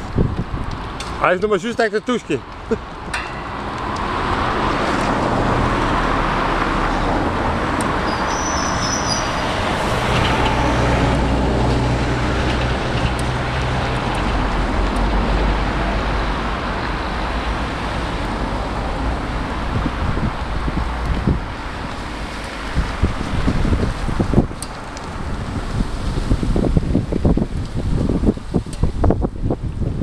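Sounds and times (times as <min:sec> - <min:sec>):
motor vehicle engine hum: 0:02.3 - 0:30.0.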